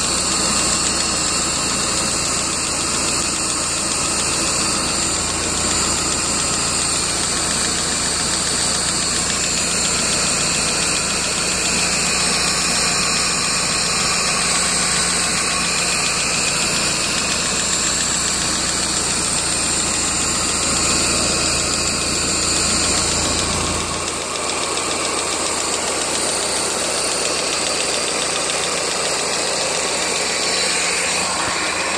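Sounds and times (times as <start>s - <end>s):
car engine idling: 0.0s - 31.9s
engine tapping: 0.0s - 31.9s.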